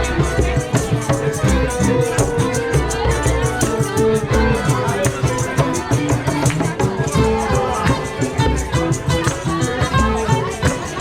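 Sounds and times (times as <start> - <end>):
music with drums and bass: 0.0 - 11.0.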